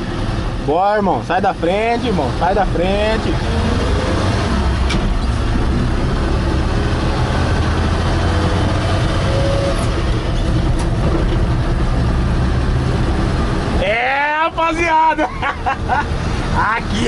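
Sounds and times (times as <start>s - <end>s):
pickup engine rumbling: 0.0s - 17.0s.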